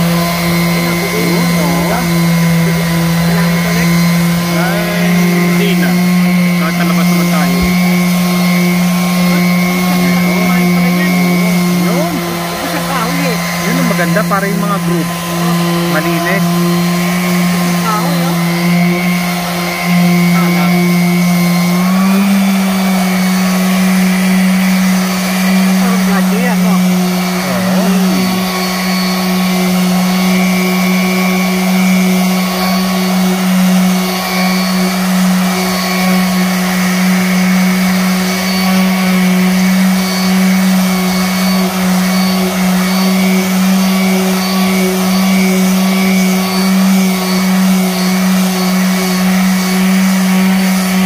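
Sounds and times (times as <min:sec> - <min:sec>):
orbital sander on wood: 0:00.0 - 0:51.0.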